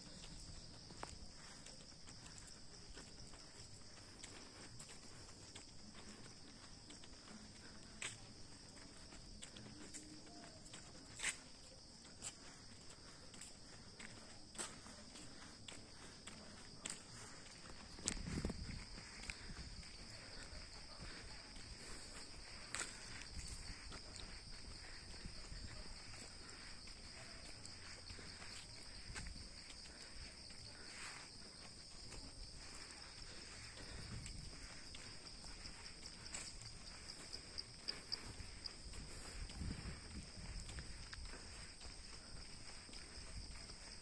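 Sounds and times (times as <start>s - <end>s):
footsteps on brick path: 0.0s - 44.0s
insects chirring: 0.0s - 44.0s.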